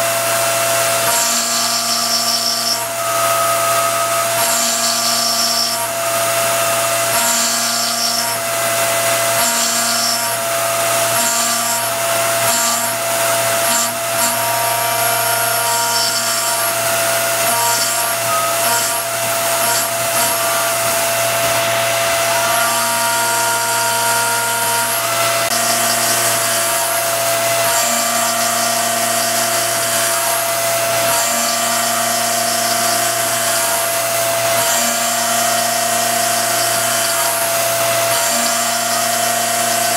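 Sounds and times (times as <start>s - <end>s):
milling machine cutting whine: 0.0s - 39.9s.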